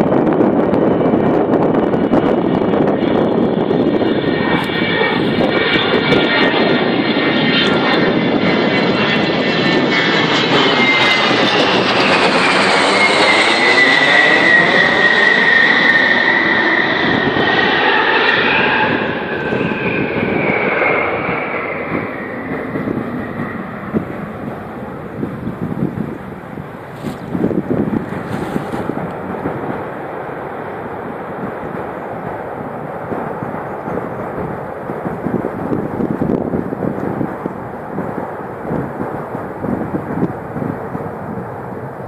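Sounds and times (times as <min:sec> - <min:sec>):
jet aircraft passing overhead: 0:00.0 - 0:42.0.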